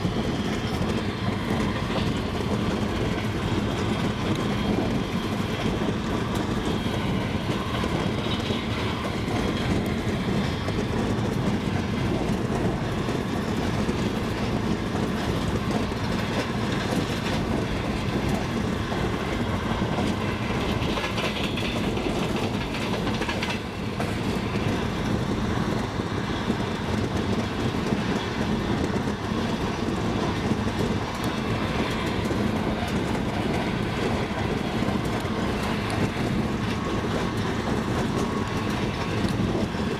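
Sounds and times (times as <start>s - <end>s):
train rolling rumble: 0.0s - 39.9s
train wheels clattering over rail joints: 0.0s - 39.9s.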